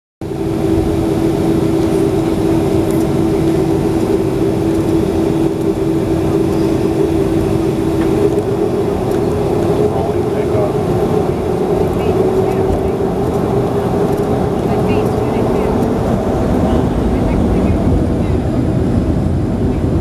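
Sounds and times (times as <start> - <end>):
jet cabin rumble: 0.2 - 20.0
two-tone engine hum: 0.2 - 20.0.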